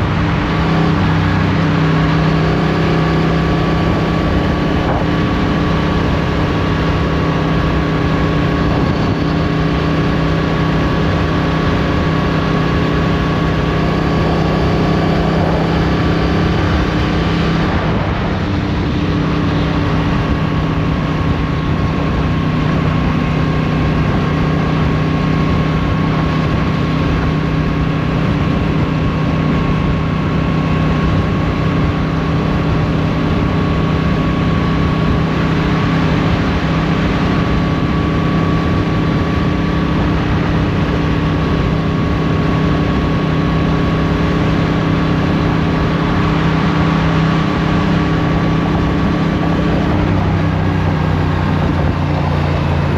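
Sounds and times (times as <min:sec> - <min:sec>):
motorcycle engine cruising: 0:00.0 - 0:52.9
road noise: 0:00.0 - 0:52.9
rushing wind: 0:00.0 - 0:52.9.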